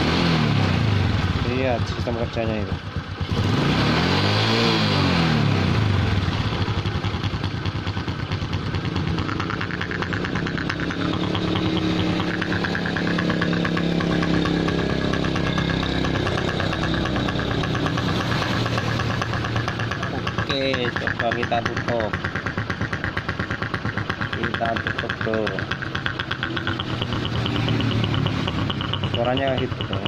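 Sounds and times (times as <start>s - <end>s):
motorcycle engine idling roughly: 0.0s - 4.0s, 5.2s - 30.0s.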